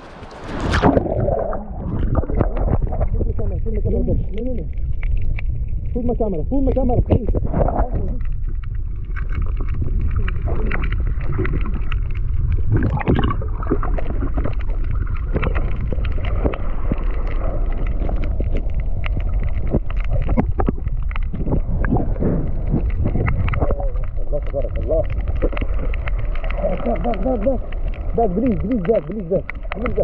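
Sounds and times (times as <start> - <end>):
low rumble of water underwater: 0.0 - 30.0
scattered clicks and crackles: 0.0 - 30.0.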